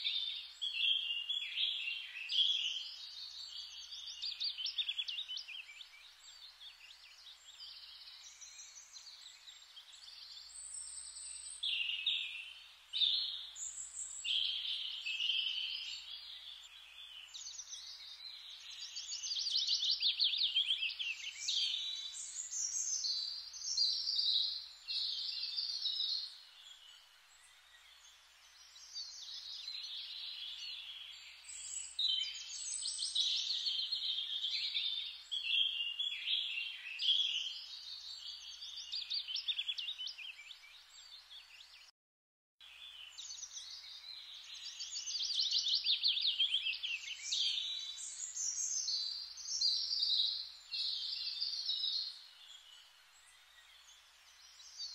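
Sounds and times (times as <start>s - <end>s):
small songbirds chirping: 0.0s - 41.9s, 42.6s - 54.9s.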